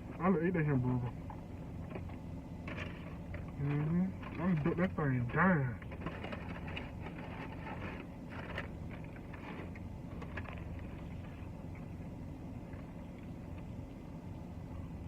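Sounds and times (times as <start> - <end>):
idling car hum: 0.0 - 15.0.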